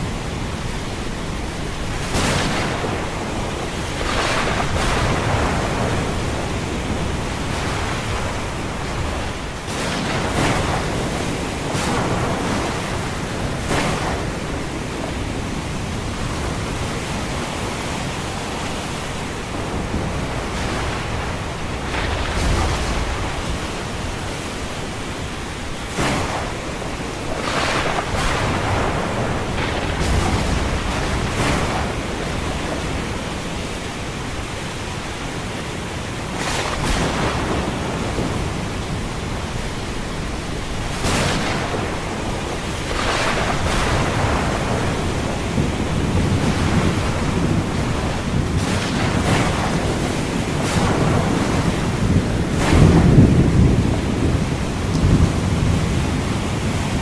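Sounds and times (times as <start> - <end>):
deep rumble of surf: 0.0 - 57.0
ocean waves rushing: 0.0 - 57.0
wave breaking: 0.0 - 57.0.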